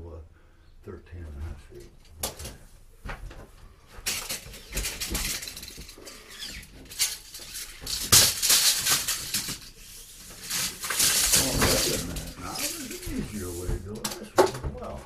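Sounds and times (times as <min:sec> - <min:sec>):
electrical cable being handled: 0:01.8 - 0:15.0.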